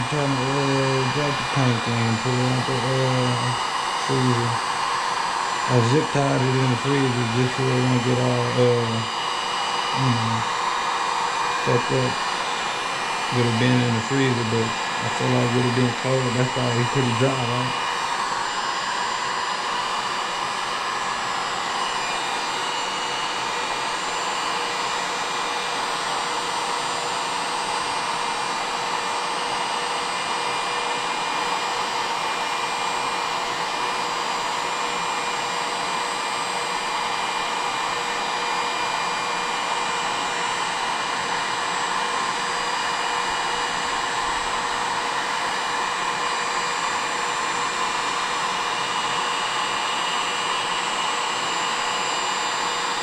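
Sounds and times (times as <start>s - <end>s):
hot-air blower running: 0.0s - 53.0s.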